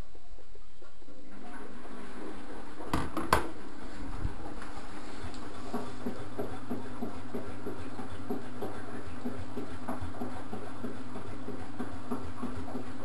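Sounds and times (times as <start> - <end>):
washing machine motor humming: 0.0 - 13.0
water sloshing in drum: 1.7 - 13.0.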